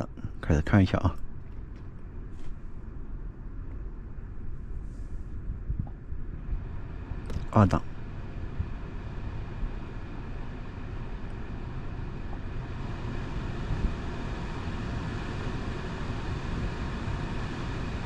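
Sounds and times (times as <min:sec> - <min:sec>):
air conditioner running: 0:00.0 - 0:18.0.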